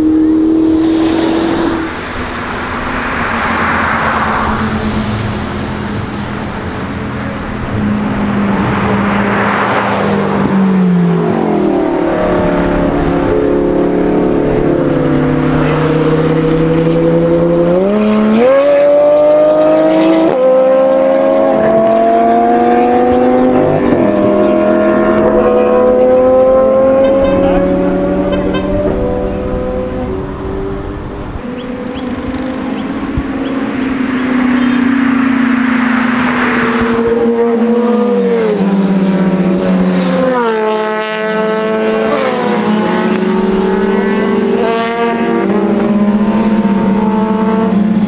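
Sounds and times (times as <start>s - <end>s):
sports car engines accelerating: 0.0s - 48.0s.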